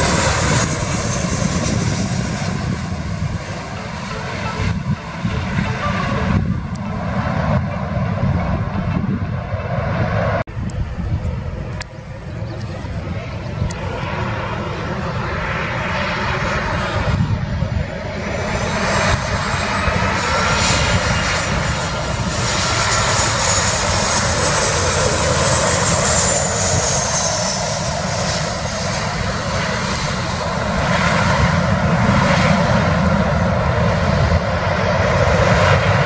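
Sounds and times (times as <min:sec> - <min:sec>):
jet engines whining and rushing: 0:00.0 - 0:36.0.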